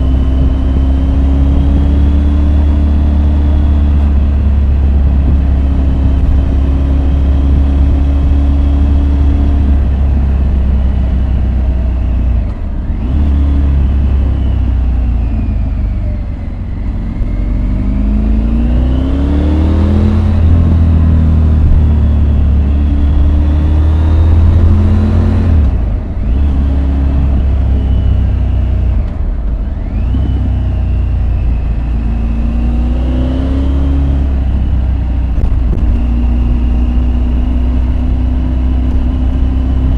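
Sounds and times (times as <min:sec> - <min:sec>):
low rush of wind: 0:00.0 - 0:39.9.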